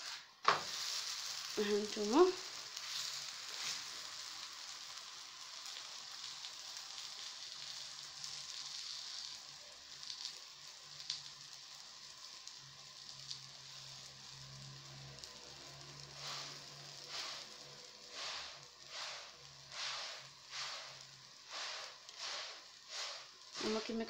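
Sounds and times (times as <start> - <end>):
flatbread sizzling in a pan: 0.0 - 24.0.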